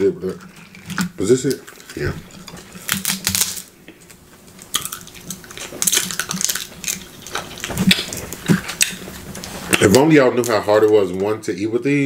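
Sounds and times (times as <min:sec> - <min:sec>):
crab shells cracking: 0:00.3 - 0:11.3.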